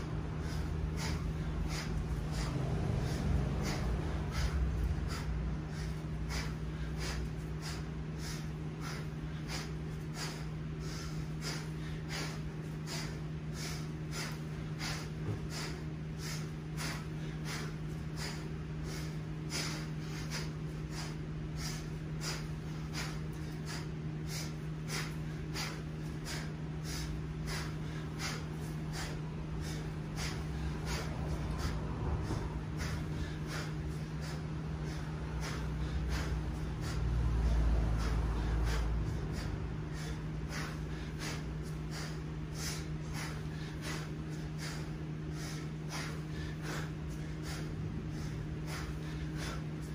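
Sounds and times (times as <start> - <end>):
man breathing hard: 0.0 - 49.9
steady low hum: 0.0 - 49.9.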